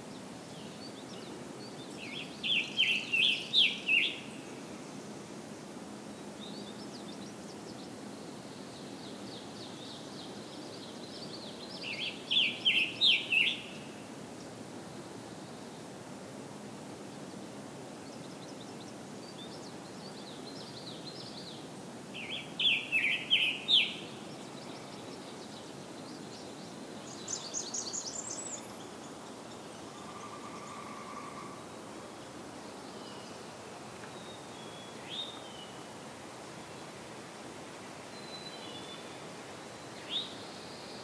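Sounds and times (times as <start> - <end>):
other songbirds: 0.0 - 4.7, 6.2 - 14.5, 18.0 - 35.9, 38.1 - 41.0
steady outdoor hiss: 0.0 - 41.0.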